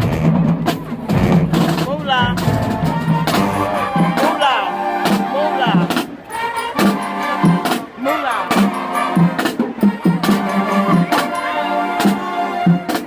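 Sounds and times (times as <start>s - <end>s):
brass chords: 0.0s - 13.0s
steady drum beat: 0.0s - 13.0s.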